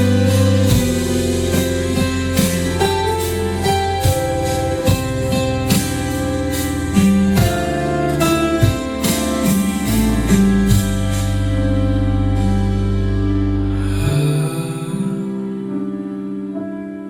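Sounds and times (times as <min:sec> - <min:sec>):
held bass: 0:00.0 - 0:16.1
plucked guitar-like notes: 0:00.0 - 0:16.5.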